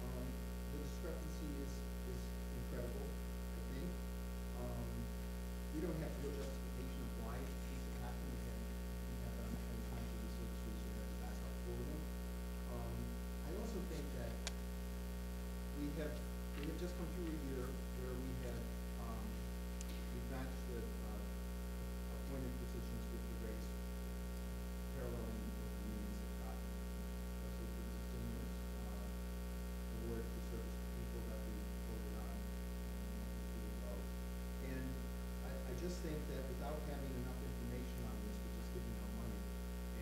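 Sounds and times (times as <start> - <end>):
faint man talking: 0.0 - 4.0, 4.6 - 5.1, 5.7 - 12.1, 12.7 - 14.4, 15.7 - 21.3, 22.1 - 23.7, 24.9 - 26.7, 27.4 - 29.2, 29.9 - 34.0, 34.6 - 40.0
electrical mains hum: 0.0 - 40.0.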